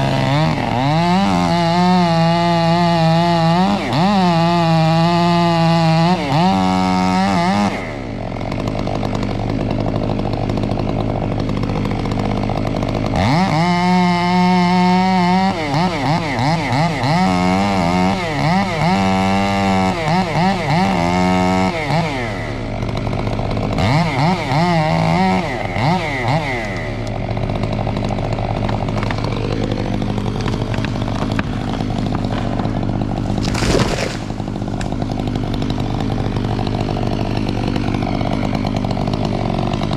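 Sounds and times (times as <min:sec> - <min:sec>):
chainsaw revving and cutting: 0:00.0 - 0:39.9.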